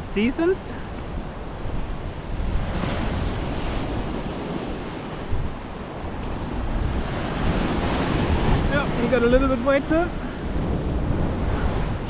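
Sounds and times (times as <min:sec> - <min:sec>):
ocean waves surging: 0:00.0 - 0:12.0
wind buffeting microphone: 0:00.0 - 0:12.0.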